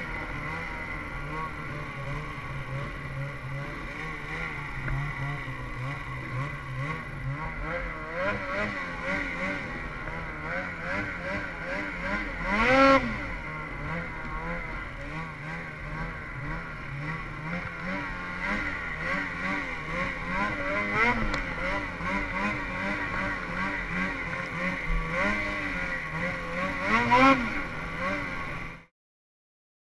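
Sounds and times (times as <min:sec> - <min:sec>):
snowmobile engine revving: 0:00.0 - 0:28.9.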